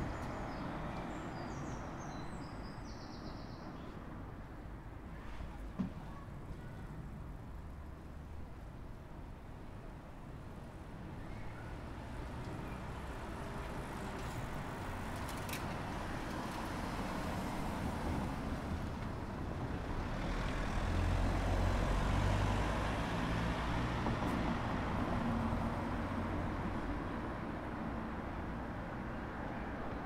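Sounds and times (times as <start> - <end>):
street traffic hum: 0.0 - 30.0.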